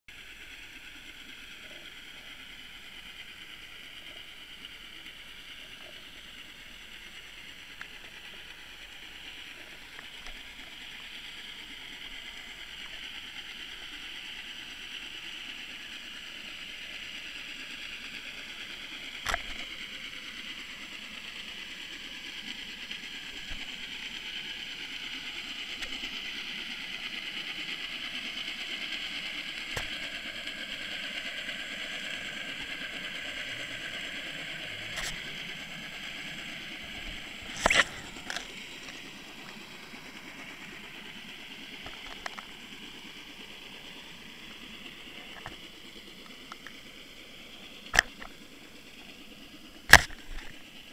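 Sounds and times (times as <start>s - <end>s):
boat motor drone: 0.1s - 50.9s.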